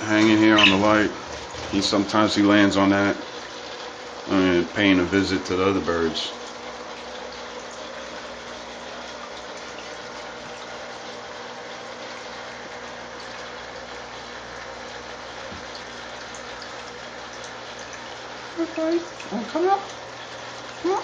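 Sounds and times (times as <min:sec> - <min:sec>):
faint low pump hum: 0:00.0 - 0:21.0
water splashing and trickling: 0:00.0 - 0:21.0.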